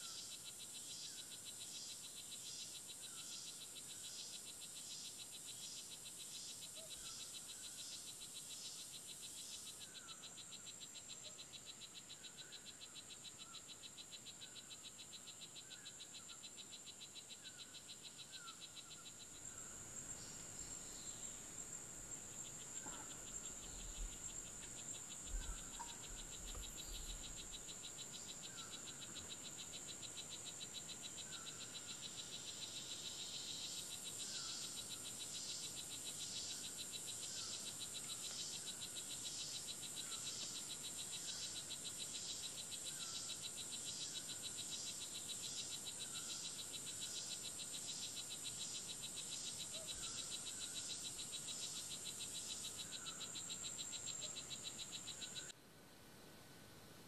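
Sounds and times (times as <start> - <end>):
insect trill pulsing: 0.0 - 55.5
insects buzzing: 0.0 - 55.6
short insect call: 0.0 - 55.6.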